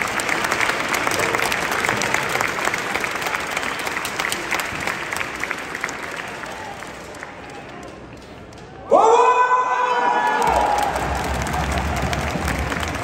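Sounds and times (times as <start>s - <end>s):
crowd applauding: 0.0s - 8.8s, 10.2s - 13.0s.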